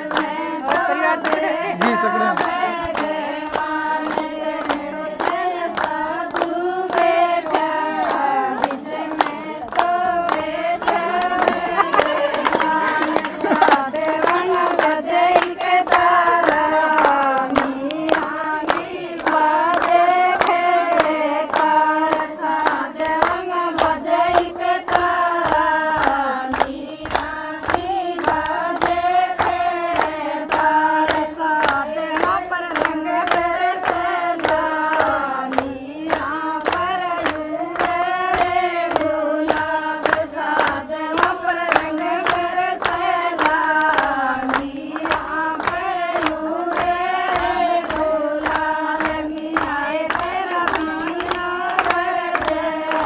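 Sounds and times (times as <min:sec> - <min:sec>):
steady hand clapping: 0:00.0 - 0:53.0
women singing together: 0:00.0 - 0:53.0.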